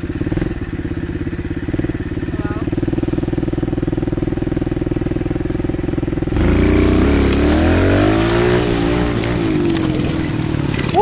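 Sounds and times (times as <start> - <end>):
motorcycle engine pulsing: 0.0 - 11.0
motorcycle engine revving: 0.0 - 11.0.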